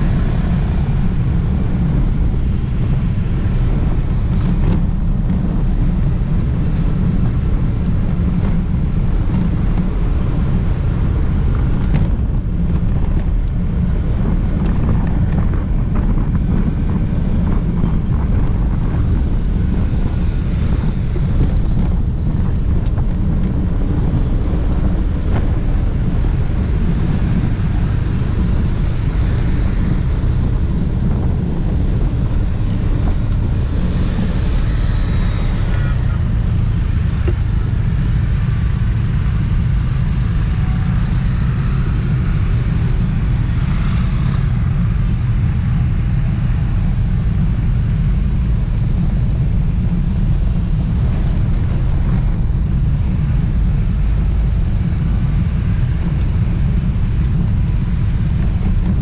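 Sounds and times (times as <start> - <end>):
vehicle and traffic noise: 0.0 - 59.0
wind buffeting microphone: 0.0 - 59.0.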